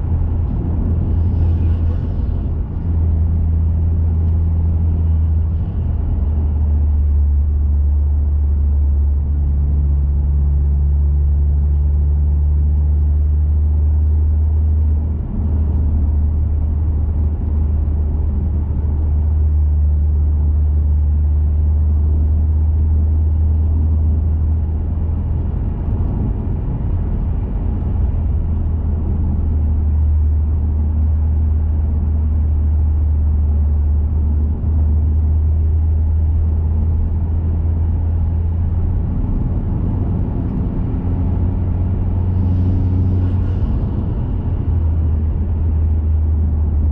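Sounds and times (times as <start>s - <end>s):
car exhaust drone: 0.0s - 46.9s
road rumble: 0.0s - 46.9s.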